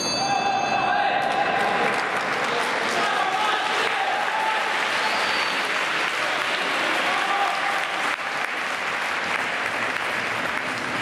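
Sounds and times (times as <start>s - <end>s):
crowd applauding: 1.2s - 11.0s.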